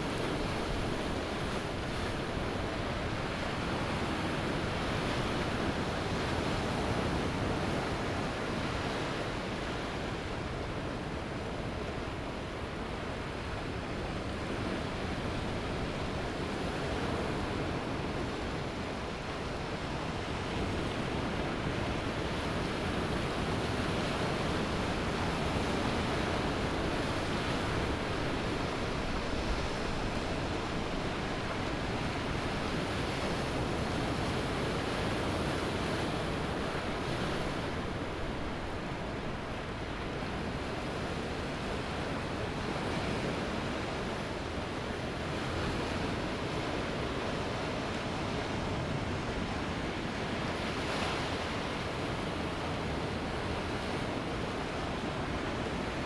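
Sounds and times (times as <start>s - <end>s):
ocean waves washing on sand: 0.0s - 56.0s.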